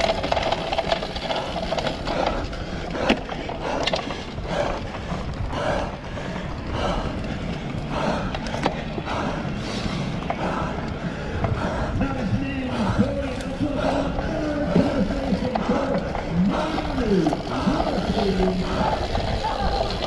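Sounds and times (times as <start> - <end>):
chain and frame rattling: 0.0 - 9.1, 12.0 - 20.0
bike tyres rolling on rough ground: 0.0 - 20.0.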